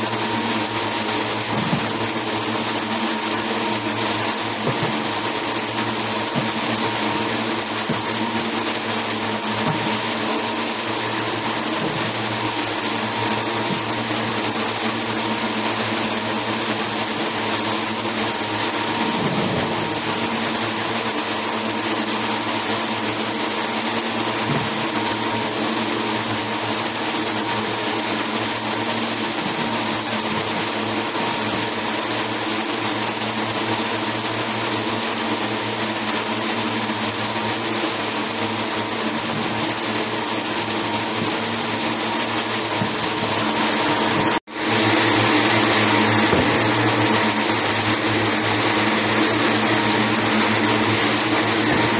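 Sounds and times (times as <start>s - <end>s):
yarn-winding machines hissing and humming: 0.0s - 51.9s.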